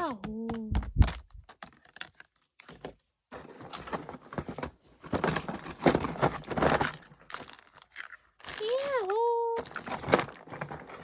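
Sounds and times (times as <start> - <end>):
crinkling and rustling: 0.0 - 11.0.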